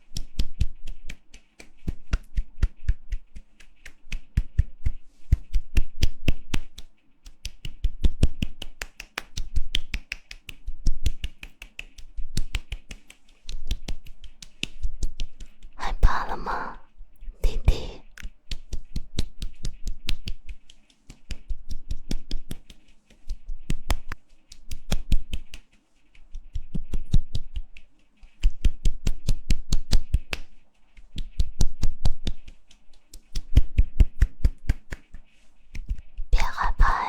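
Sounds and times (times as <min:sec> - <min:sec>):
rapid hand clapping: 0:00.1 - 0:15.8, 0:17.7 - 0:36.2.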